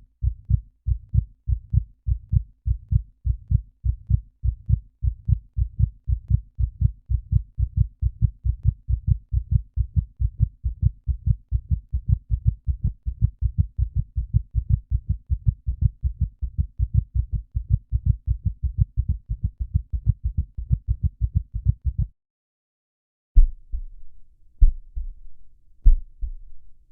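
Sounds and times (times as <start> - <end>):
heartbeat thumps: 0.2 - 22.2, 23.4 - 26.8.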